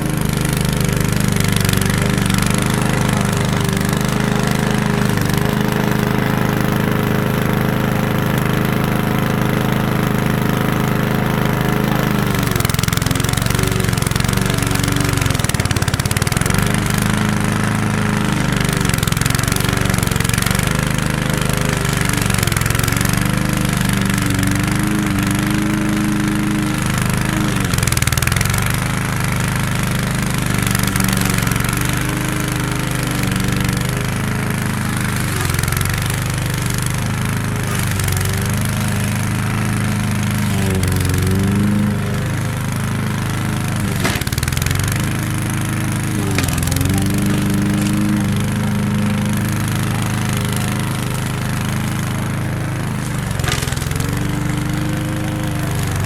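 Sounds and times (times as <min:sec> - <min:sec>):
lawn mower engine bogging: 0:00.0 - 0:56.0.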